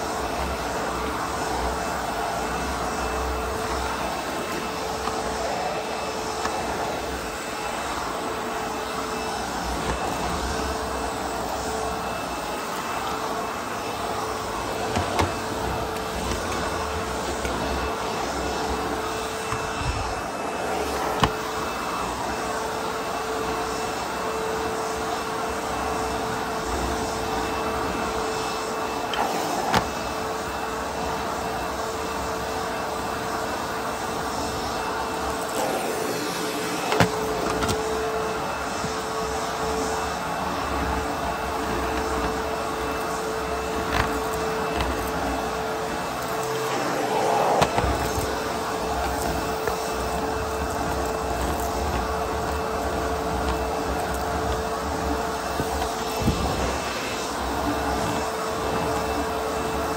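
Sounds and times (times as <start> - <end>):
vacuum suction rushing: 0.0 - 22.8, 34.4 - 59.9
vacuum motor whine: 0.0 - 59.9.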